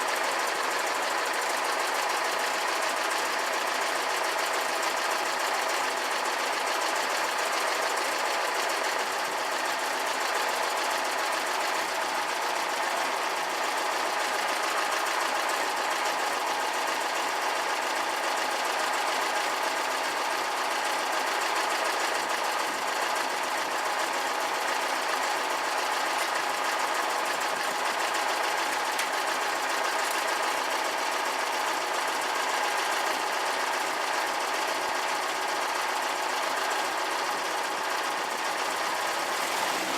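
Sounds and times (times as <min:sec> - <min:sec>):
air-cooled car engine running: 0:00.0 - 0:39.9.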